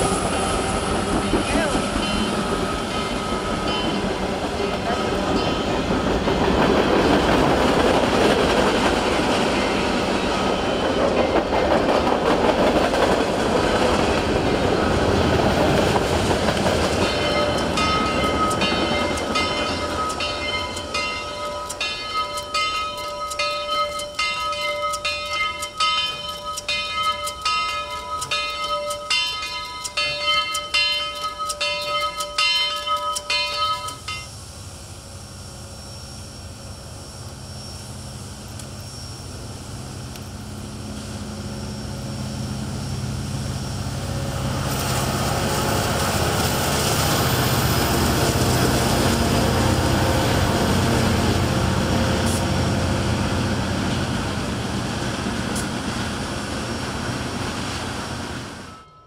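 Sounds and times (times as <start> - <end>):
steam locomotive bell ringing: 0.0 - 36.6, 40.5 - 59.0
freight train rumbling past: 0.0 - 59.0.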